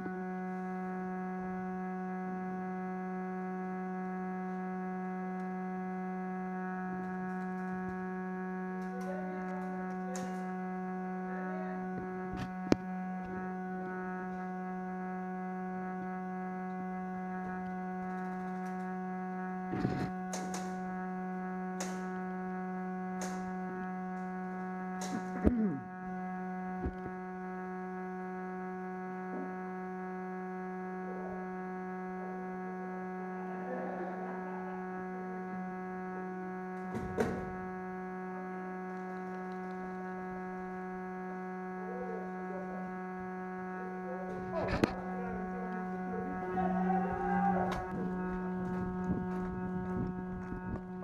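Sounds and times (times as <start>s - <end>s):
buzzy electrical hum: 0.0s - 51.0s.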